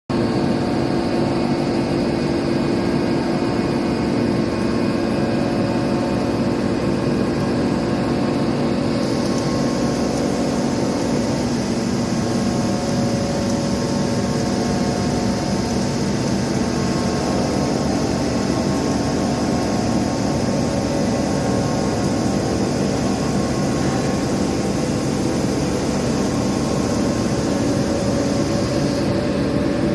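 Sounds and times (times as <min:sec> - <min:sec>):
milling machine hum and whine: 0:00.1 - 0:29.9.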